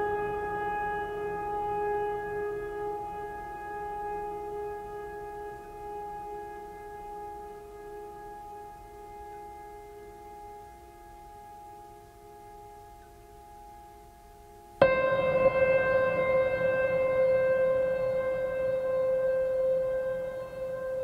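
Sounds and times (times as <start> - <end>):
ambient music sustained chord: 0.0 - 21.0.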